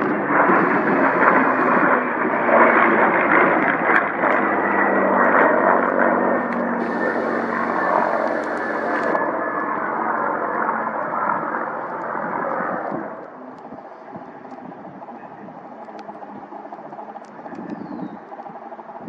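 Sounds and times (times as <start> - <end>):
aircraft engine noise: 0.0 - 19.0.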